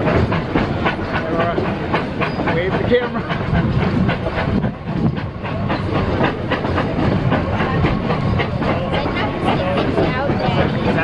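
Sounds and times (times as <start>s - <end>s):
low train rumble: 0.0s - 11.0s
train wheels clicking on rail joints: 0.0s - 11.0s.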